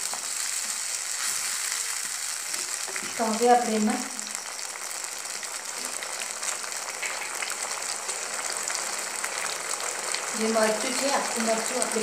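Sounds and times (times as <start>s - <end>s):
sauce sizzling in a pan: 0.0s - 12.0s.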